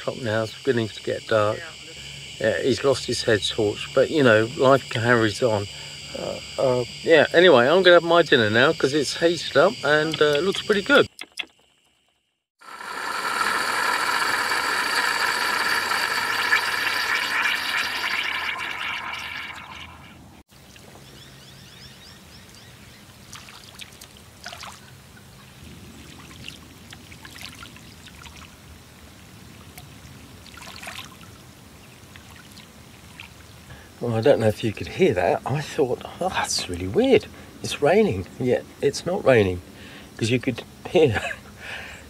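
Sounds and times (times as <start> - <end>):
insects trilling: 0.0 - 28.9, 29.8 - 42.0.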